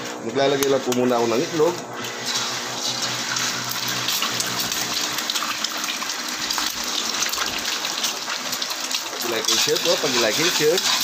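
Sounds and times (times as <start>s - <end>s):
egg sizzling in hot oil: 1.4s - 11.0s.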